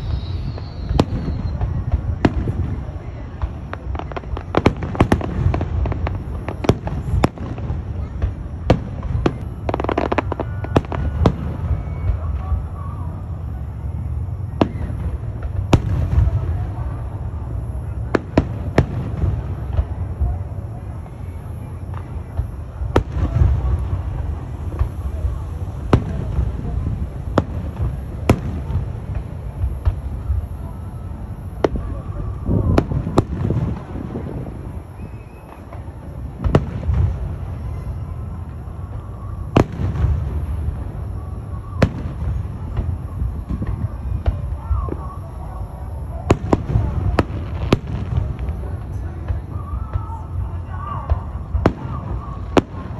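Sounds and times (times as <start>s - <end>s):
fireworks bursting: 0.0s - 52.9s.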